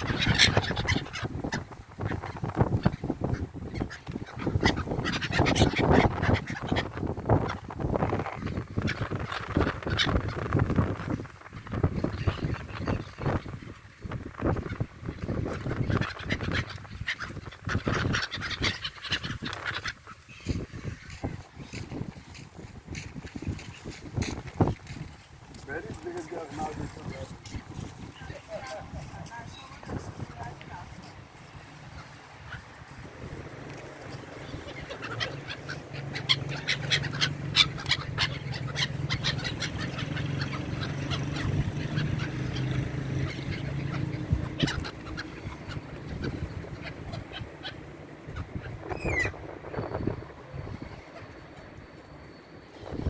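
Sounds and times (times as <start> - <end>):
seabirds calling: 0.0 - 53.0.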